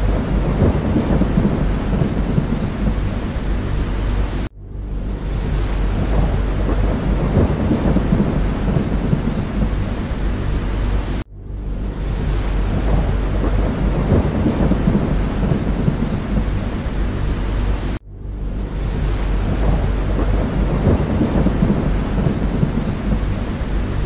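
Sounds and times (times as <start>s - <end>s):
deep engine drone: 0.0s - 24.0s
steady rain: 0.0s - 24.0s.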